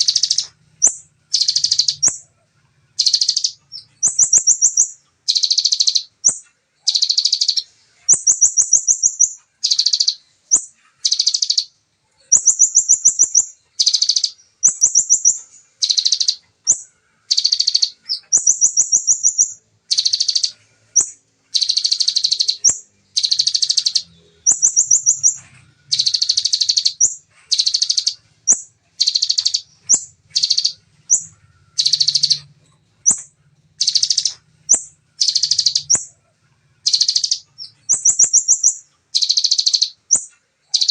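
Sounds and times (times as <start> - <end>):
bird singing fast trills: 0.0 - 40.9.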